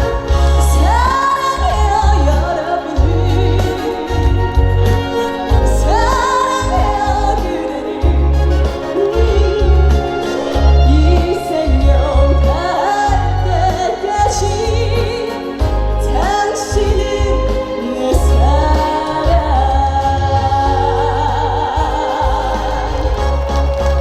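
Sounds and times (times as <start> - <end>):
backing track with pounding bass: 0.0 - 24.0
woman singing with vibrato: 0.0 - 24.0.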